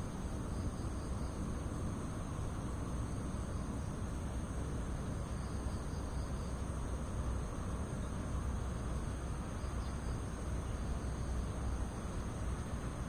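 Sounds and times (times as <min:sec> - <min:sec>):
high-pitched insect trill: 0:00.0 - 0:04.4, 0:05.1 - 0:12.8.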